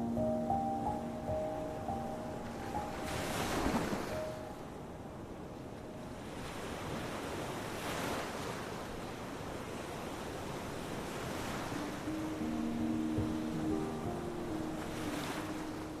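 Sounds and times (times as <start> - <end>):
waves breaking on beach: 1.0 - 16.0.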